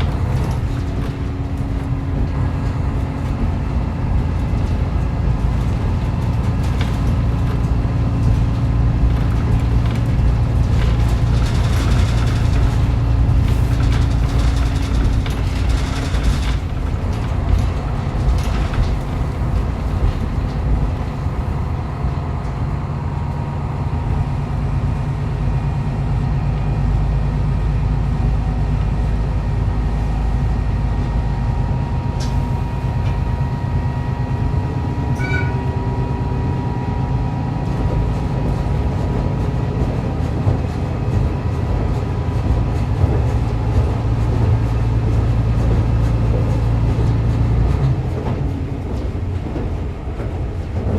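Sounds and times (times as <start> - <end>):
diesel engine drone: 0.0 - 50.9
wheels rumbling on rail: 0.0 - 50.9.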